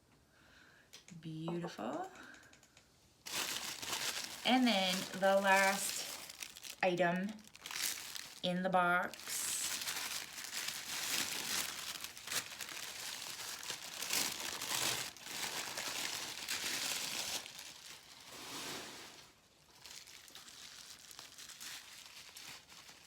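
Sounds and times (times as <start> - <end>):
wrapping crinkling: 3.2 - 23.0.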